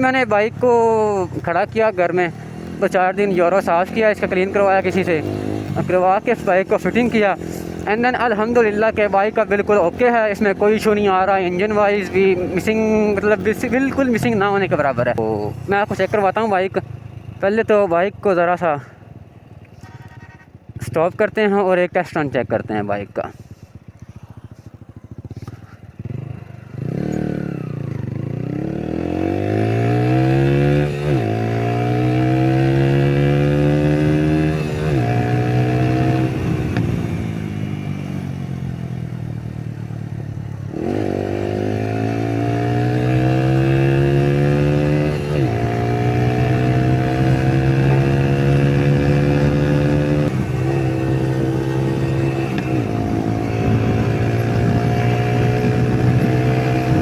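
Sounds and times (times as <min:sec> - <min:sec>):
motorcycle engine accelerating: 0:00.0 - 0:21.0, 0:22.4 - 0:57.0.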